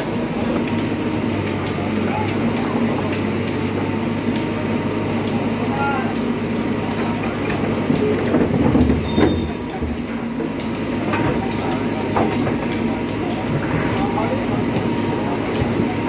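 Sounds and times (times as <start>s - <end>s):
steady noisy hum: 0.0s - 16.0s.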